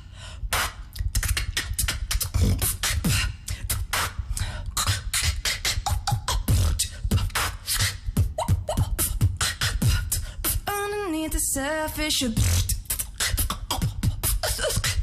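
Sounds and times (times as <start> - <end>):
woman beatboxing: 0.5 - 15.0.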